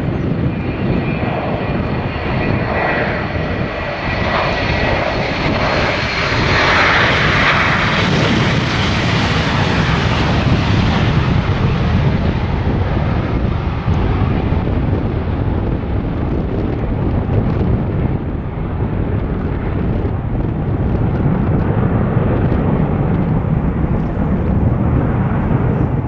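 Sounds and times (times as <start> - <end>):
jet engines roaring on takeoff: 0.0 - 26.0.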